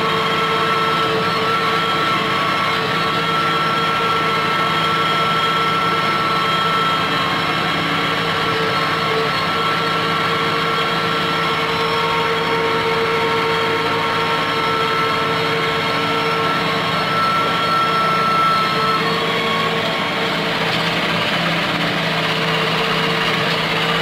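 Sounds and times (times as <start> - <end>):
constant whine: 0.0 - 24.0
tractor engine running: 0.0 - 24.0.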